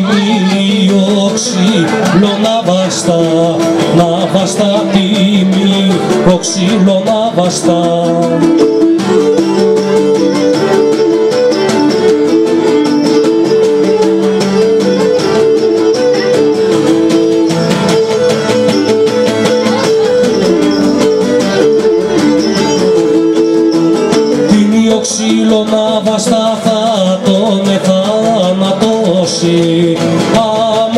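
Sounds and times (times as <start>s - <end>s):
bowed lyra melody: 0.0s - 30.9s
plucked lutes strumming rhythm: 0.0s - 30.9s.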